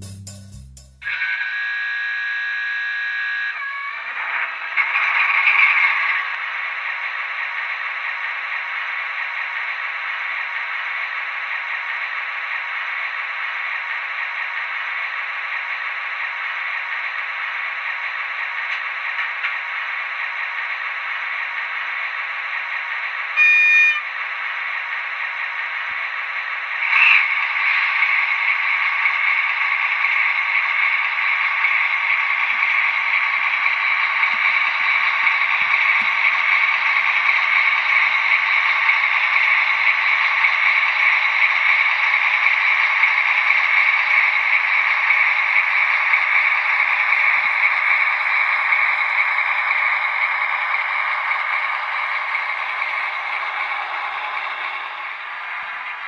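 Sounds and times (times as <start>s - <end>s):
model locomotive diesel engine sound: 0.0s - 56.0s.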